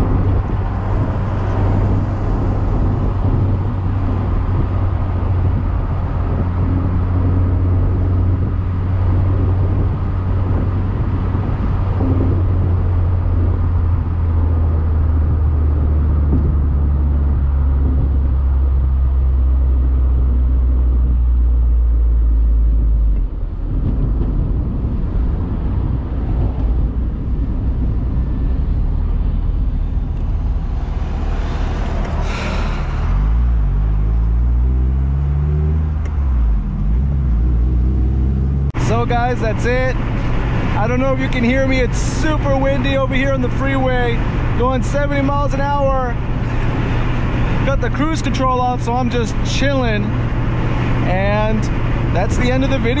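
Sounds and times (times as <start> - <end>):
car engine droning: 0.0 - 53.0
road noise: 0.0 - 53.0.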